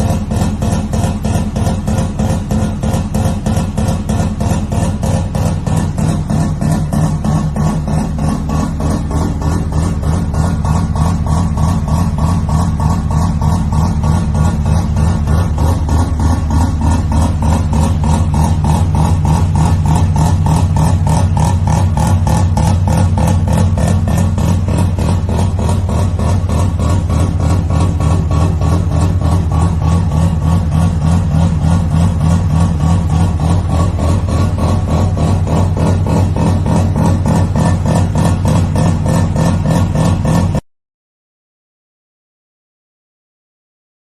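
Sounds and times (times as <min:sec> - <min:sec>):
rotary engine idling: 0:00.0 - 0:40.6.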